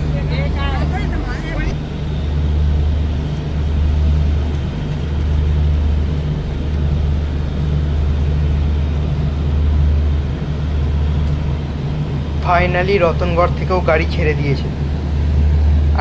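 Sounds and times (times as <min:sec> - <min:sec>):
train mechanical hum: 0:00.0 - 0:16.0.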